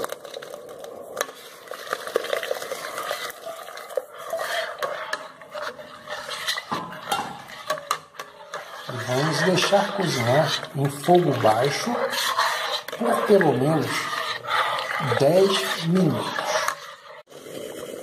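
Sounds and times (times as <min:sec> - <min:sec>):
sugar pouring: 0:00.0 - 0:06.8, 0:08.4 - 0:18.0
spatula clicking and scraping pot: 0:00.0 - 0:17.3.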